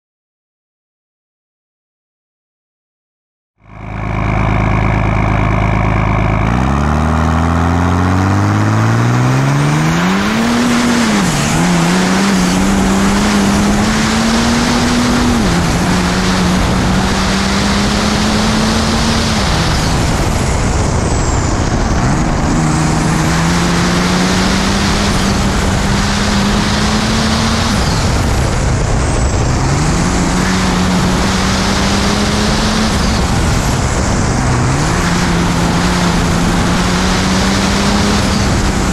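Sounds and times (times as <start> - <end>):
diesel truck engine revving: 3.6 - 38.9.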